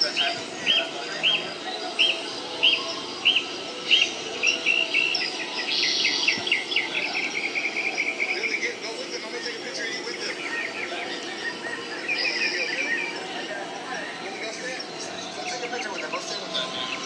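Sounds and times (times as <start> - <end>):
bird-like chirps: 0.0 - 17.0
fast trill of chirps: 0.0 - 17.0
murmur of background voices: 0.0 - 17.0.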